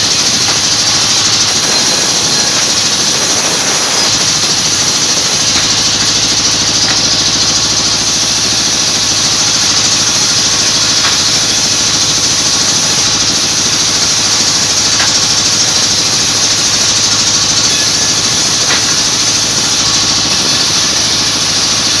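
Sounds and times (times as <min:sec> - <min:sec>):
band saw cutting wood: 0:00.0 - 0:22.0
motor hum: 0:00.0 - 0:22.0.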